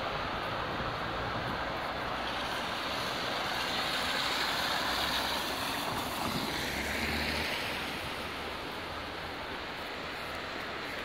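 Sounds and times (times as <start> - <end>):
steady rain on street: 0.0 - 11.0
traffic passing on wet road: 0.0 - 11.0.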